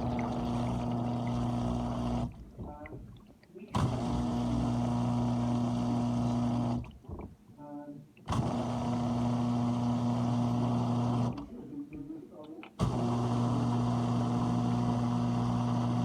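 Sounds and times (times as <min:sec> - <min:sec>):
dishwasher pump motor humming: 0:00.0 - 0:07.4, 0:08.2 - 0:12.1, 0:12.8 - 0:16.0.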